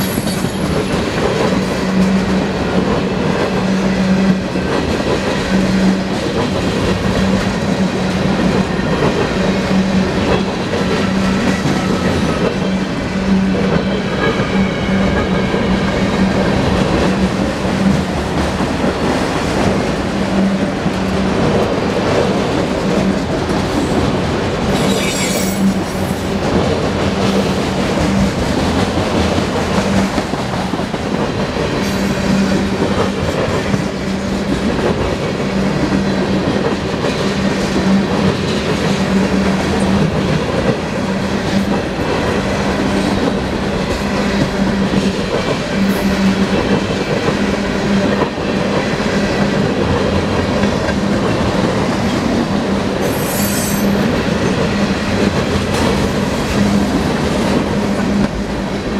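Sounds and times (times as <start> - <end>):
train wheels clattering over rails: 0.0 - 58.9.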